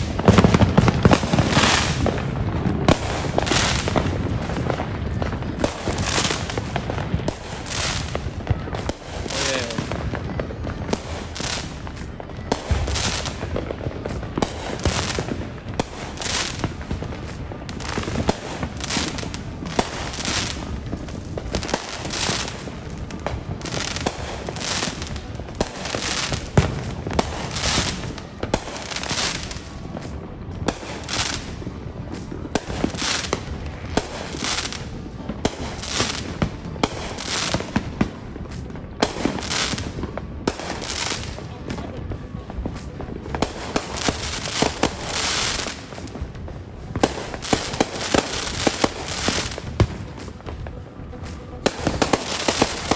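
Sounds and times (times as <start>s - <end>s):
fireworks bursting: 0.0s - 52.9s.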